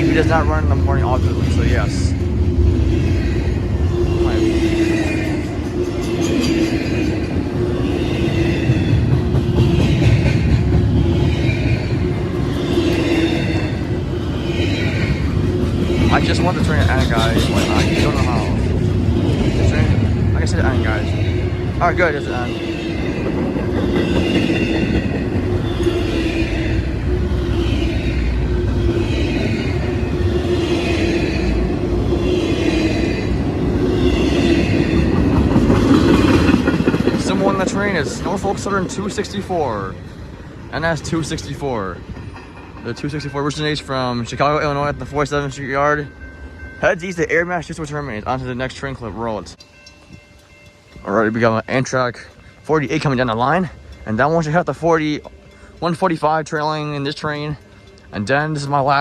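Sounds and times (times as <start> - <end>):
freight train rumbling past: 0.0 - 59.0
train wheel screech: 0.0 - 59.0.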